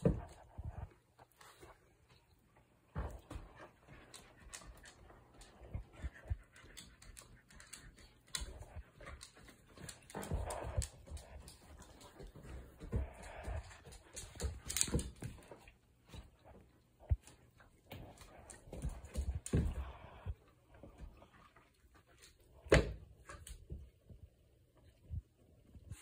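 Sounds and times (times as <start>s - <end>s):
paws and toys on wooden floor: 0.0s - 26.0s.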